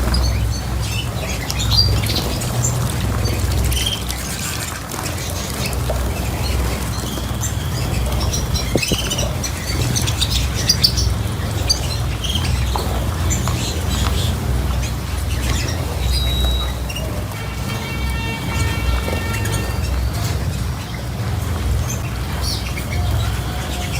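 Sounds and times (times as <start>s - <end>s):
cage birds chirping: 0.0s - 23.9s.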